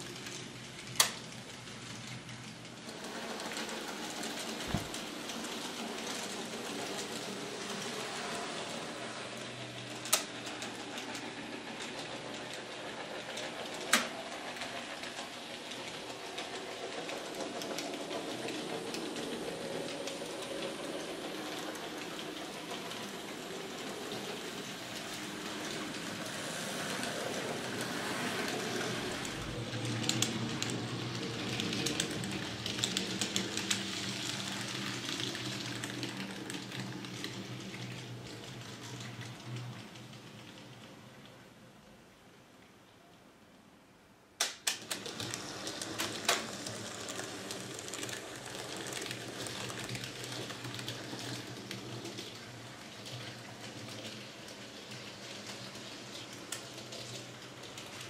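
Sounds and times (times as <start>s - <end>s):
model train motors humming: 0.0s - 41.0s, 44.8s - 58.0s
wheels clicking over rail joints: 0.0s - 41.5s, 44.4s - 58.0s.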